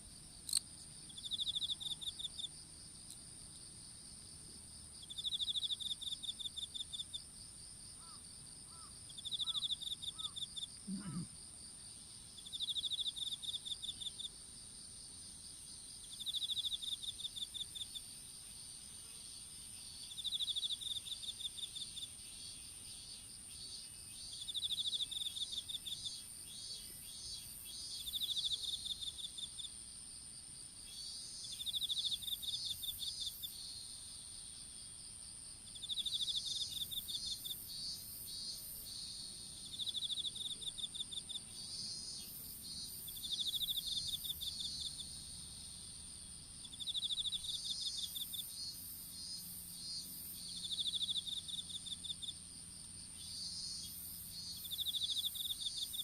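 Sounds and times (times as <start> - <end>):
insect high-pitched trill: 0.3 - 3.7, 5.0 - 7.3, 7.9 - 29.8, 30.8 - 34.6, 35.6 - 56.0
insect pulsed chirps: 0.3 - 3.7, 5.0 - 15.1, 15.8 - 29.8, 30.8 - 34.6, 35.7 - 56.0.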